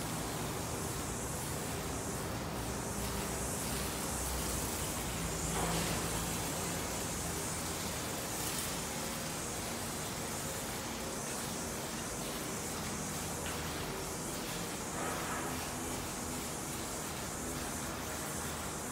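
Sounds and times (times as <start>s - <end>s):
steady hiss: 0.0s - 18.9s.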